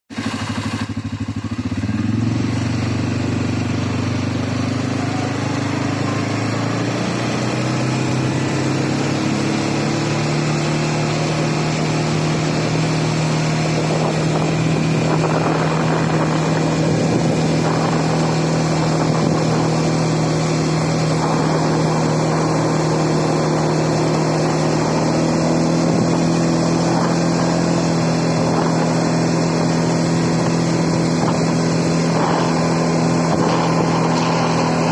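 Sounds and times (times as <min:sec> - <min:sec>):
atv engine pulling away: 0:00.1 - 0:34.9.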